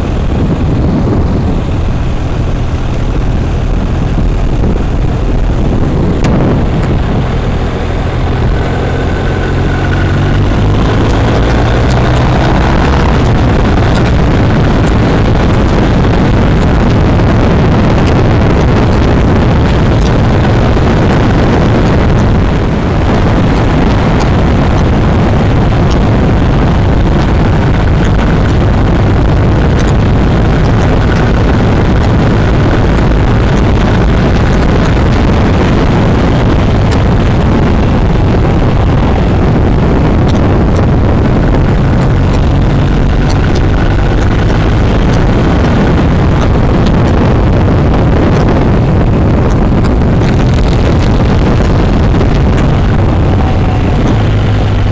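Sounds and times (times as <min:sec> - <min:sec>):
motorcycle engine hum: 0:00.0 - 0:54.9
wind rush on microphone: 0:00.0 - 0:54.9.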